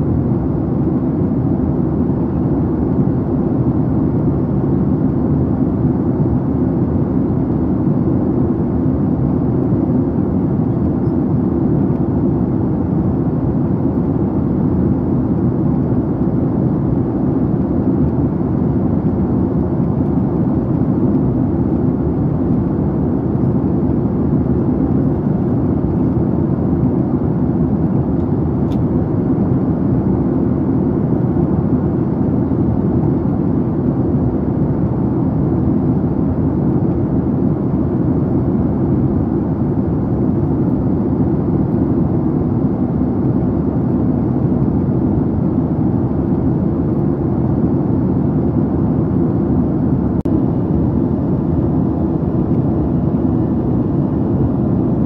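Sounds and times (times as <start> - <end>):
airplane cabin noise: 0.0 - 55.0.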